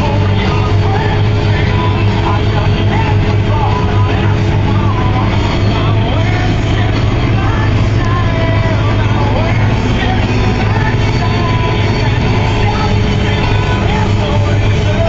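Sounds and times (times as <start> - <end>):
combine harvester engine drone: 0.0 - 15.0
rock music with singing: 0.0 - 15.0.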